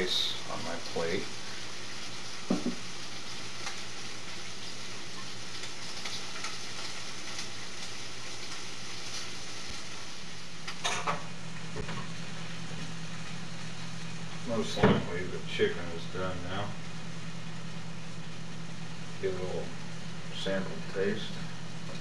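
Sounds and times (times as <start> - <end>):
chicken sizzling in skillet: 0.0 - 22.0.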